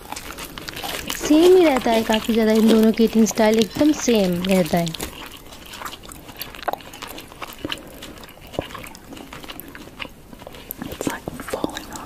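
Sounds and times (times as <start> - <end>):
person chewing food: 0.0 - 12.0
wet mouth clicks: 0.0 - 12.0.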